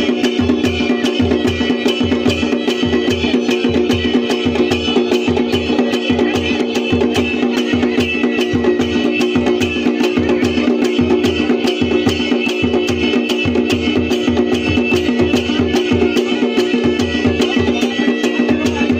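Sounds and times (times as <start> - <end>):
drums beating fast rhythm: 0.0 - 18.9
high melody line: 0.0 - 18.9.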